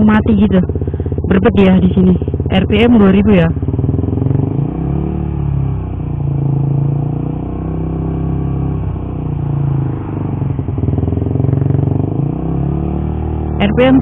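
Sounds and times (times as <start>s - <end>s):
motorcycle engine running unevenly: 0.0s - 14.0s.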